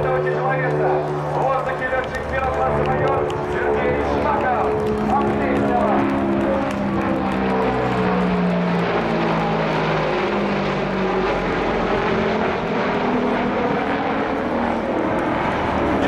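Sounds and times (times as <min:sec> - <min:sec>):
aircraft engines roaring: 0:00.0 - 0:16.0
propeller drone overhead: 0:00.0 - 0:16.0.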